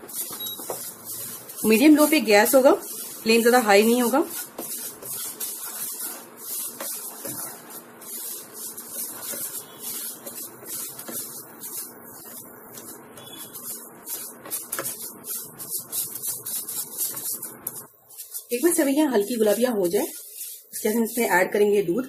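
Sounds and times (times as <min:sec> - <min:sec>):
spatula scraping and tapping pan: 0:00.0 - 0:21.3
vermicelli sizzling in pan: 0:00.0 - 0:22.0.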